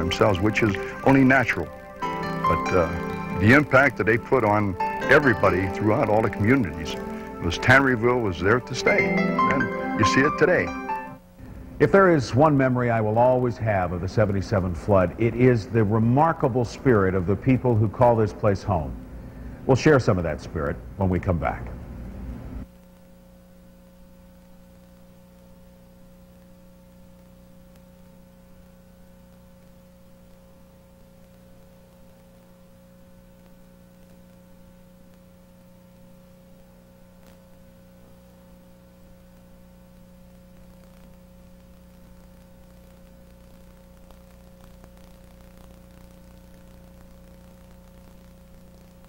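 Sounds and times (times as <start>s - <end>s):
electrical mains hum with hiss: 0.0s - 49.0s.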